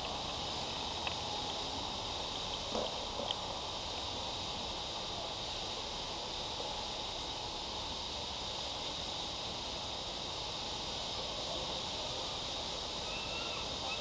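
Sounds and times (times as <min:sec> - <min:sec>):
city traffic hum: 0:00.0 - 0:14.0.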